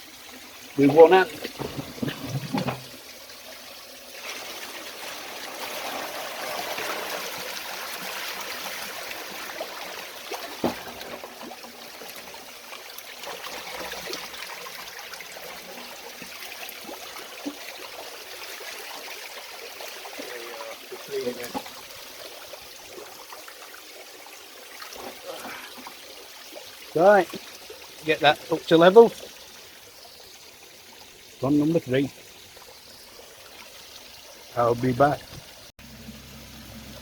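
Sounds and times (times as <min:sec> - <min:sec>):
water splashing into pond: 0:00.0 - 0:37.0.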